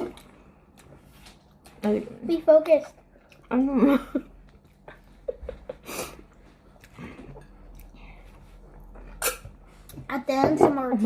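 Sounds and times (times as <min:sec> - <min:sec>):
people chewing: 0:00.0 - 0:10.1.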